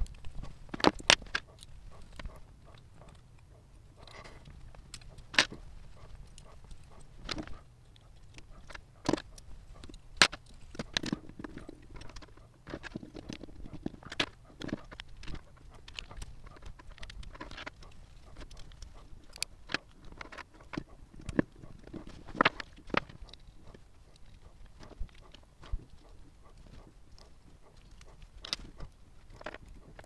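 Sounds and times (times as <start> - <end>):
plastic parts clicking and tapping: 0.0 - 3.3, 4.0 - 30.0
soft rubbing and rustling: 3.9 - 30.0.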